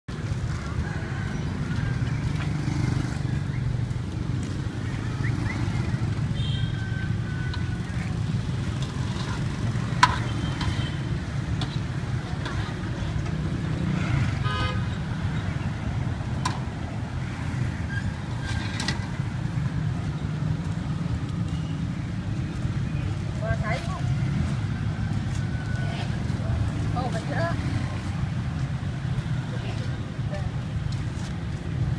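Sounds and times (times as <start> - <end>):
street traffic rumble: 0.0 - 31.9.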